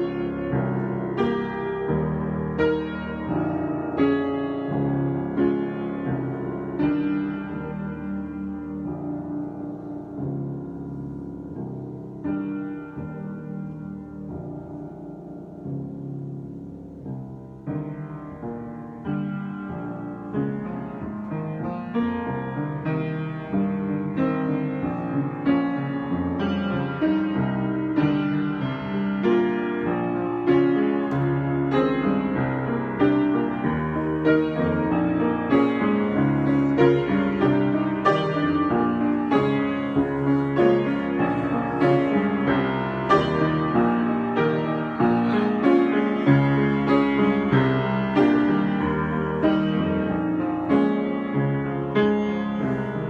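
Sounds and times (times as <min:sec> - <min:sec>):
piano improvisation: 0:00.0 - 0:53.0.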